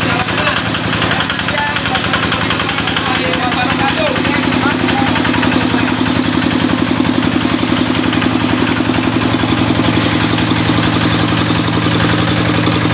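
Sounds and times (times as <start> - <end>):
small engine running a chopper: 0.0 - 12.9.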